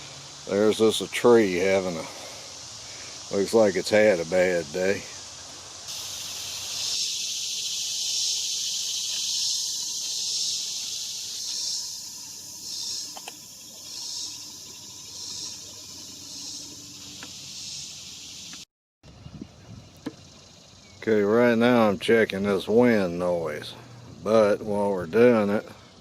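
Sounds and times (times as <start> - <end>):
high hissing insect chorus: 0.0 - 26.0.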